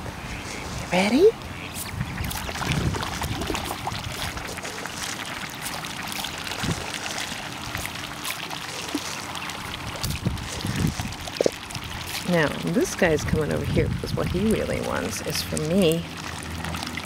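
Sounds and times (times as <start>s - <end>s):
ducks splashing in shallow water: 0.0s - 17.0s.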